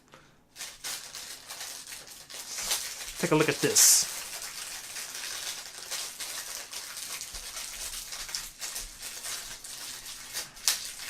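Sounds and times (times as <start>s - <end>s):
packaging rustling: 0.6s - 11.0s.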